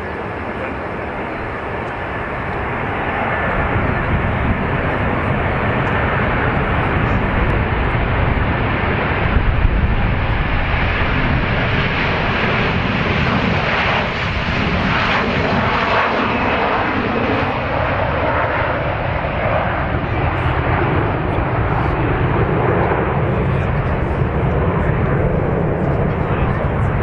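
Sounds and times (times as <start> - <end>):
passing aircraft engine rush: 0.0 - 27.0.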